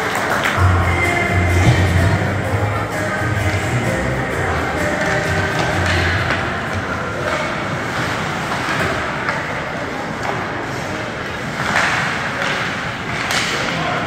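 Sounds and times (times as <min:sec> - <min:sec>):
ice hockey rink background noise: 0:00.0 - 0:14.0.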